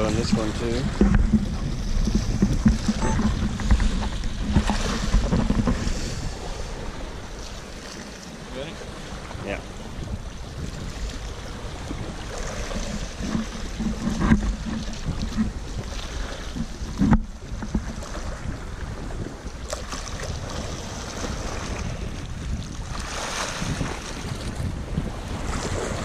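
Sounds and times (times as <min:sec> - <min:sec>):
surf washing against rocks: 0:00.0 - 0:26.0
wind buffeting microphone: 0:00.0 - 0:26.0.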